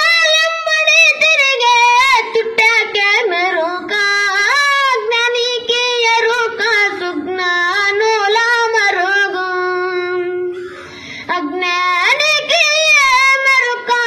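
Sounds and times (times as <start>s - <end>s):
boy singing solo: 0.0s - 10.5s, 11.3s - 14.0s.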